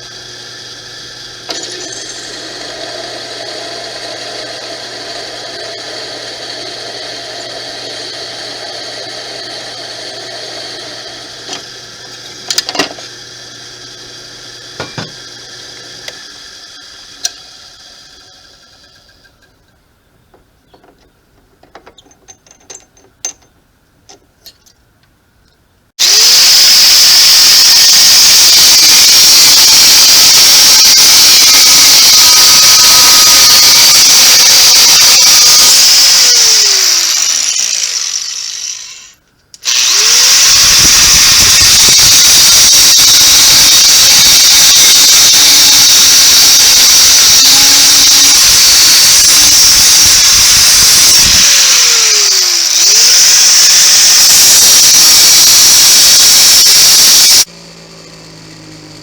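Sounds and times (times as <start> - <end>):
electric power tool running: 0.0 - 19.4, 26.0 - 59.0.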